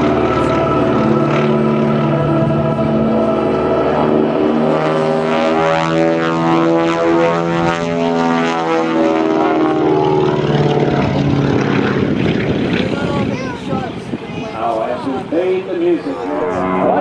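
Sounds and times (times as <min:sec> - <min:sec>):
propeller plane engines droning: 0:00.0 - 0:17.0.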